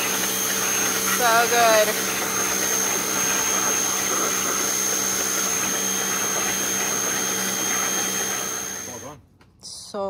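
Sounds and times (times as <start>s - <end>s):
pressure washer motor drone: 0.0s - 9.2s.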